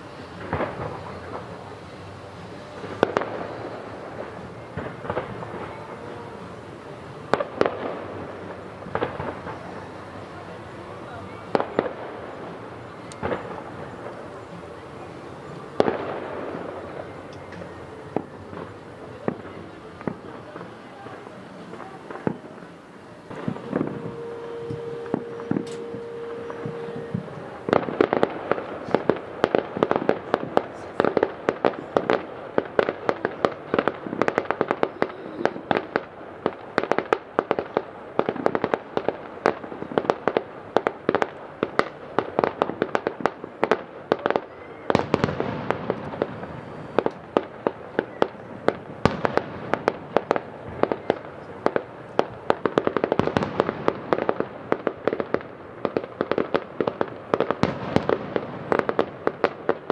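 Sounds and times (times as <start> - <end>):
distant fireworks bangs and crackling: 0.0 - 59.9.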